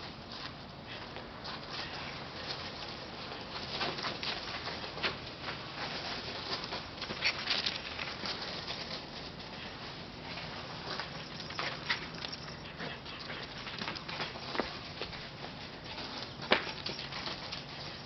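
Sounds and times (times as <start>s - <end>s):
dog running through dry leaves: 1.0s - 18.0s.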